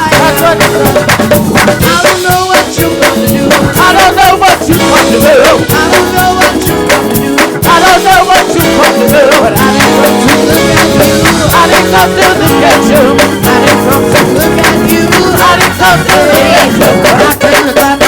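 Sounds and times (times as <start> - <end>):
drum kit beat: 0.0 - 18.0
live gospel band playing: 0.0 - 18.0
people singing: 0.0 - 18.0.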